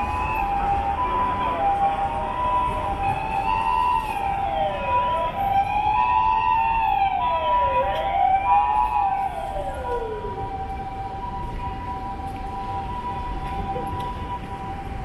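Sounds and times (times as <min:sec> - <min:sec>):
two-tone siren: 0:00.0 - 0:15.0
wailing siren: 0:00.0 - 0:15.0.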